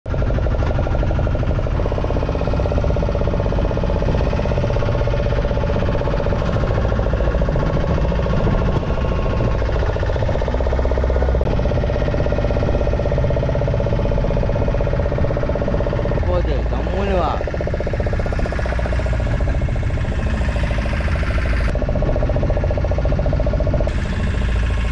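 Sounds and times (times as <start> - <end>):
boat engine running: 0.1 - 24.9.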